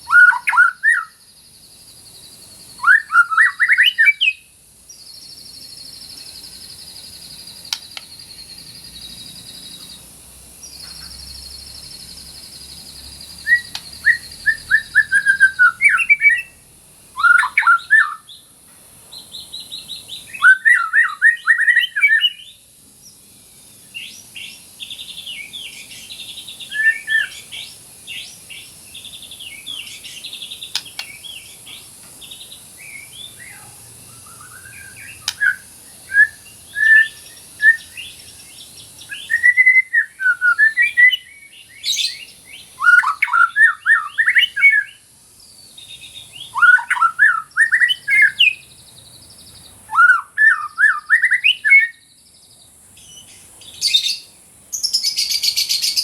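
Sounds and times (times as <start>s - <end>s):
bird singing trills and whistles: 0.0s - 56.0s.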